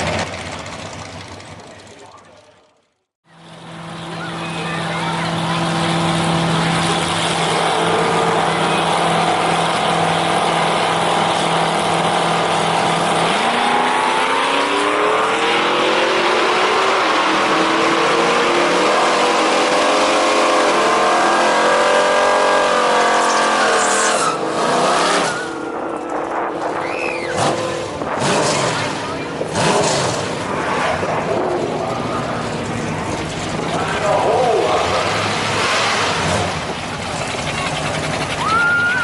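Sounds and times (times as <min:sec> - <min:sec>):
drag racing engine revving: 0:00.0 - 0:39.0.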